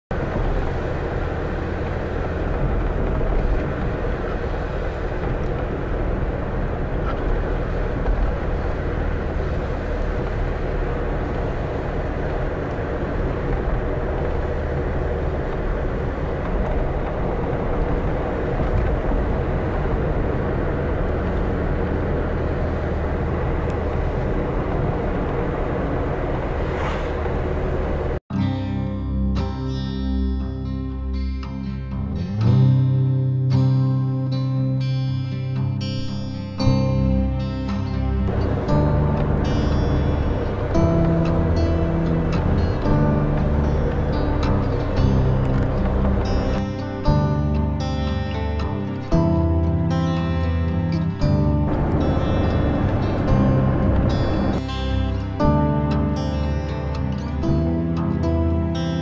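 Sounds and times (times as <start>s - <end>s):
low rumble with faint hum: 0.1s - 28.2s, 38.2s - 58.6s.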